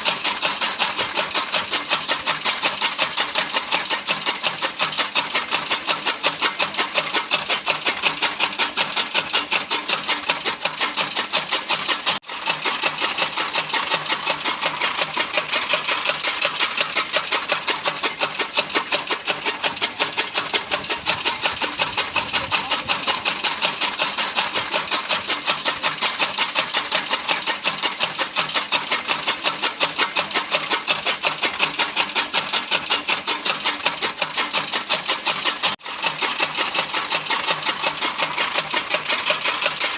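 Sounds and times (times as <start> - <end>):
fodder cutting machine chopping: 0.0 - 39.9.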